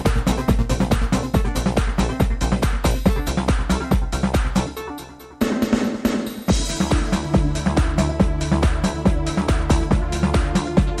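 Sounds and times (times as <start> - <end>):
heavy bass kick: 0.0 - 4.8, 6.5 - 11.0
electronic dance music: 0.0 - 11.0.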